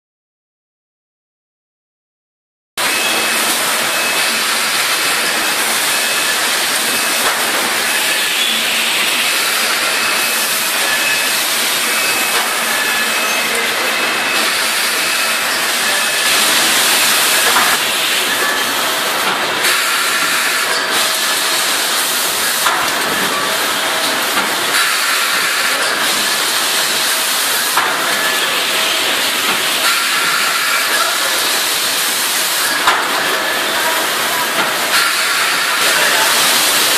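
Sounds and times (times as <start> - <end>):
machine hiss and whir: 2.8 - 36.9.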